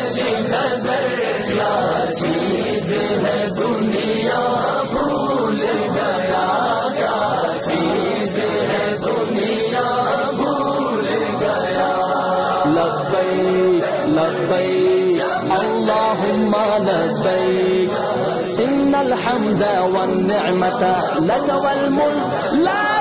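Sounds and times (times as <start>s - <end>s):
voices chanting in harmony: 0.0s - 23.0s.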